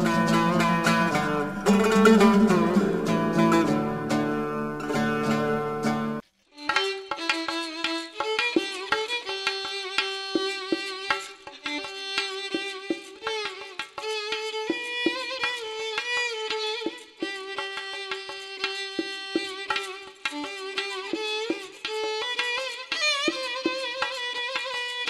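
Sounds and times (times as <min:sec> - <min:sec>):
violin melody: 0:00.0 - 0:25.0.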